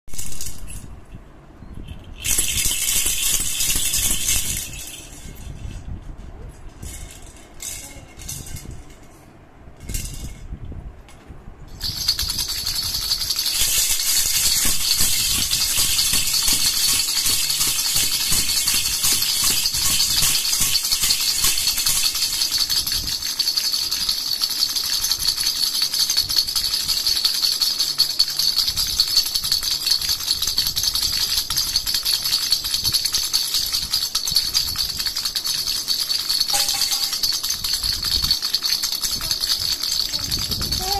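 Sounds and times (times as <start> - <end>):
baby rattle shaking: 0.0 - 10.5, 11.7 - 40.9.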